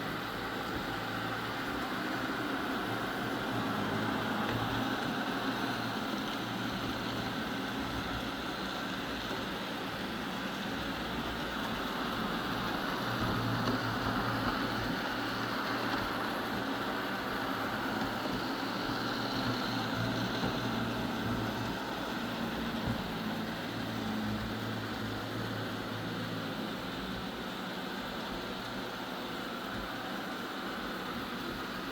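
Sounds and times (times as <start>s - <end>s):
robot vacuum whirring: 0.2s - 31.9s.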